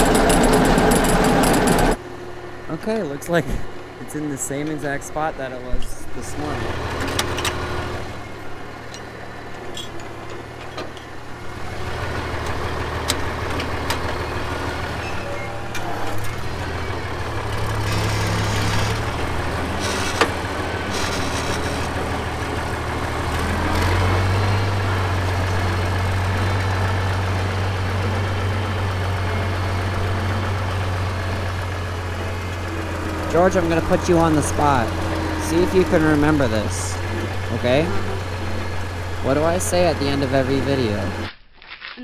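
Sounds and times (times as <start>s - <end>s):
engine humming: 0.0s - 41.3s.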